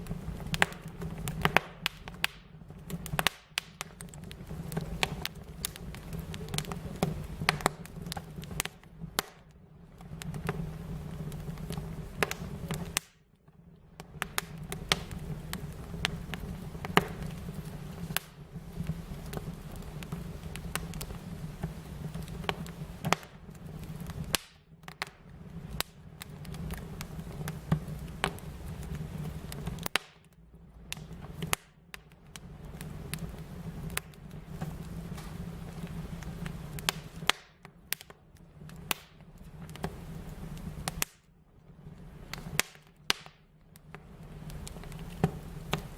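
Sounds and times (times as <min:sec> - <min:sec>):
low rumble of burning: 0:00.0 - 0:45.9
wood fire crackling: 0:00.0 - 0:45.9
sharp pops and snaps: 0:00.4 - 0:09.5, 0:11.2 - 0:13.2, 0:14.0 - 0:41.3, 0:42.3 - 0:45.9.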